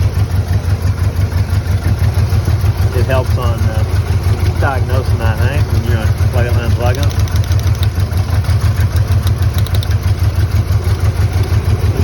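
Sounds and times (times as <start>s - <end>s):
engine idling roughly: 0.0s - 12.0s.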